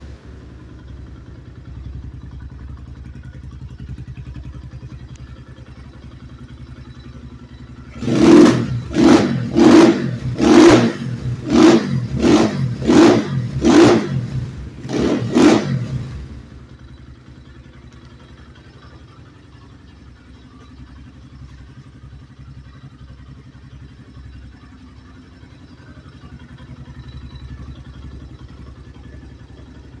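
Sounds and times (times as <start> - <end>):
motorcycle engine idling with clatter: 0.0 - 30.0.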